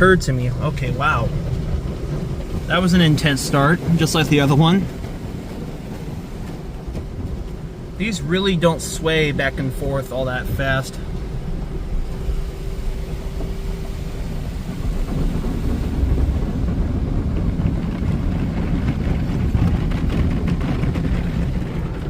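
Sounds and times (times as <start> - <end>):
faint steady hum: 0.0 - 21.4
car wash motors rumbling: 0.0 - 22.0.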